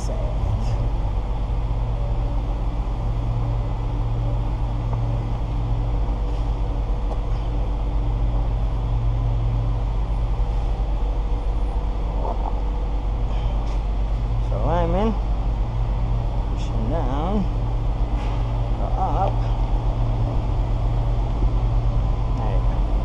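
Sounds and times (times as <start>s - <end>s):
machinery droning: 0.0s - 23.0s.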